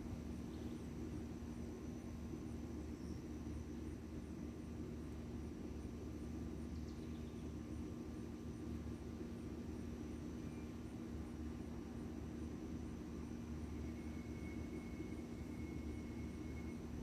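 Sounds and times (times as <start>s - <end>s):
low hum and rumble: 0.0s - 17.0s.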